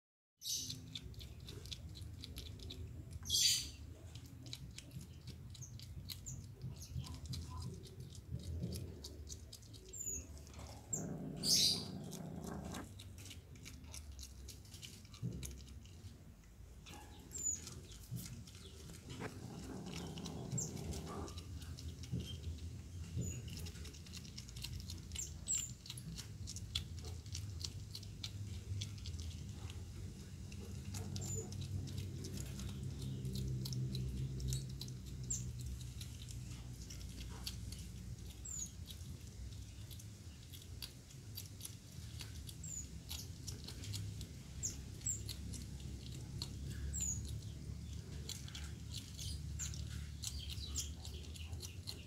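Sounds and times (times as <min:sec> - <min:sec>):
animal chewing and crunching: 0:00.4 - 0:52.0.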